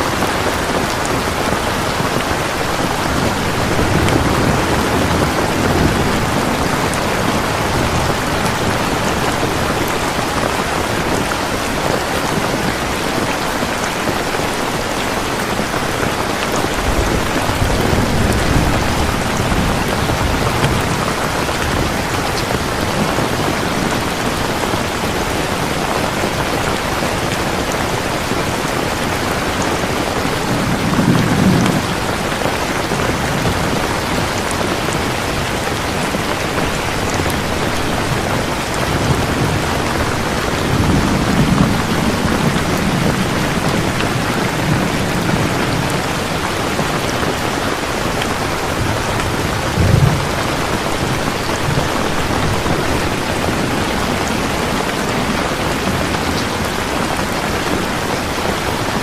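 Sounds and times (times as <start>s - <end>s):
heavy rain falling: 0.0s - 59.0s
thunder rumbling: 0.1s - 13.6s, 14.7s - 57.6s.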